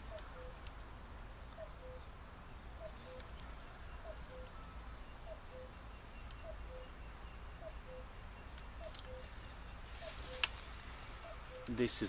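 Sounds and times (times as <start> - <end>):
insect chirping high pitch: 1.5 - 3.3, 3.9 - 12.0.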